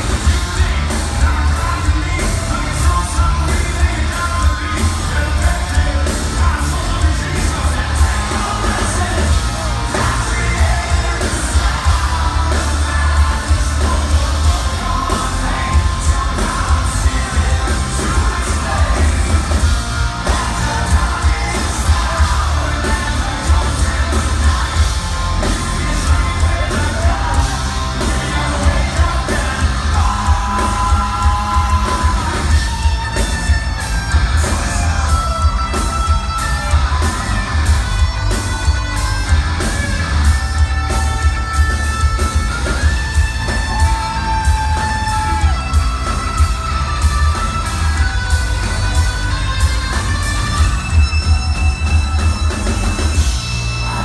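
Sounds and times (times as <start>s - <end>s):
hard rock band playing: 0.0s - 54.0s
singer singing and yelling: 0.0s - 54.0s.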